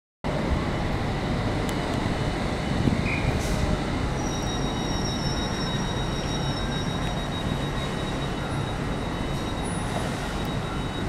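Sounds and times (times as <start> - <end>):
high steady whine: 0.3 - 11.0
train rumble: 0.3 - 11.0.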